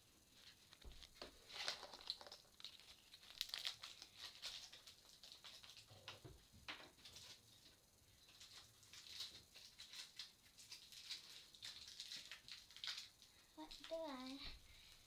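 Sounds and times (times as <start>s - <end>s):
crinkling and rustling in hands: 0.1s - 15.0s.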